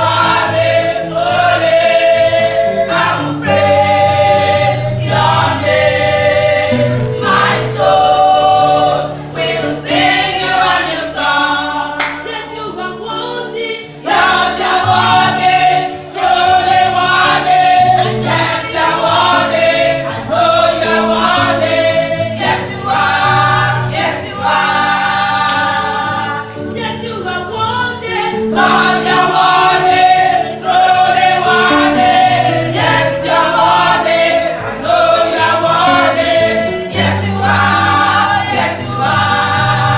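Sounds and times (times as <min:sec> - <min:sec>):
steady bass accompaniment: 0:00.0 - 0:12.4, 0:14.0 - 0:39.9
choir singing gospel: 0:00.0 - 0:39.9.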